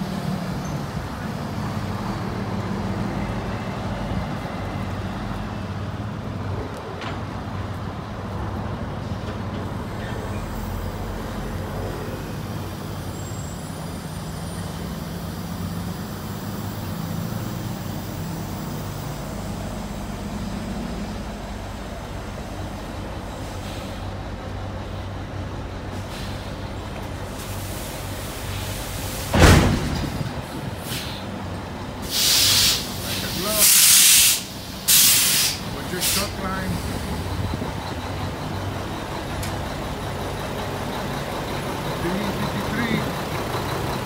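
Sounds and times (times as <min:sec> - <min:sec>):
diesel truck engine idling low: 0:00.0 - 0:44.0.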